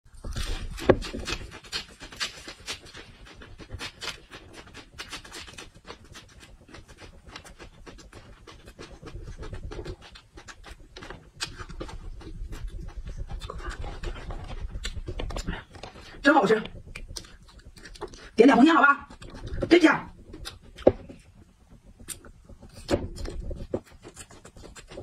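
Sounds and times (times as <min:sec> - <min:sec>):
crisp wet crunching chewing: 0:00.1 - 0:25.0.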